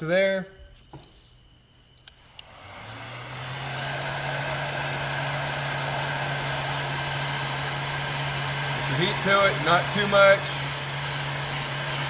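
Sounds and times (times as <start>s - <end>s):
heat gun fan whirring: 0.1s - 12.0s.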